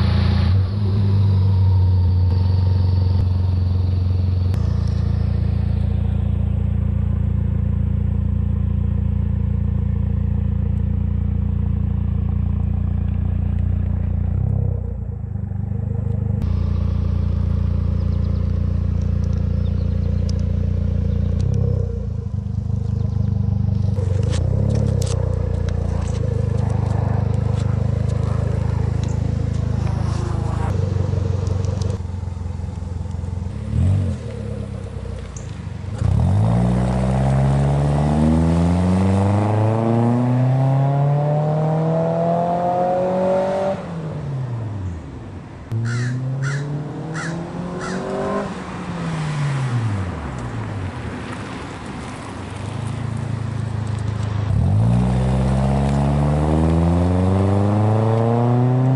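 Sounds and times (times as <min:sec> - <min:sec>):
car engine idling and accelerating: 0:00.0 - 0:58.9.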